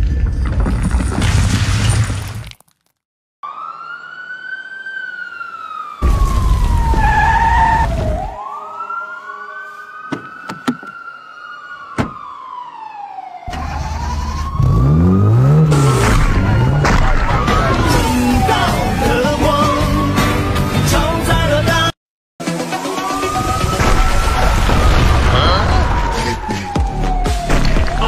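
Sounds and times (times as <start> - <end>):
emergency vehicle siren wailing: 3.4 - 21.2, 22.6 - 28.0.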